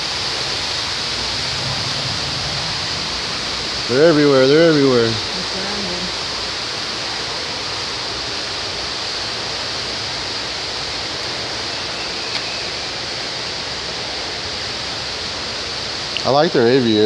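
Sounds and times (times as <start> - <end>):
steady rushing noise: 0.0 - 16.1.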